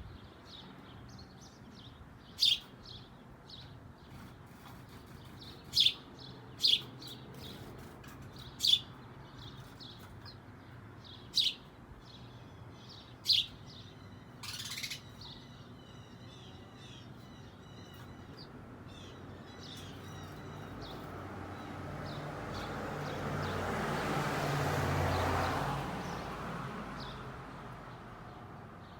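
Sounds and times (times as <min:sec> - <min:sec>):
small birds chirping: 0:00.0 - 0:24.1.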